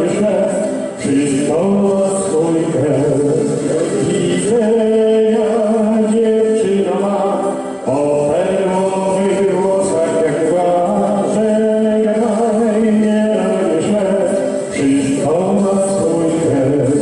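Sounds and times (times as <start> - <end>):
man singing into microphone: 0.0 - 17.0.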